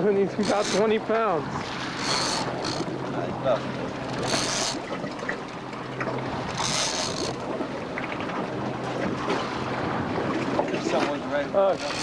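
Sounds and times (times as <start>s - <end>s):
boat engine humming: 0.0s - 12.0s
water noise: 0.0s - 12.0s
wind: 0.0s - 12.0s.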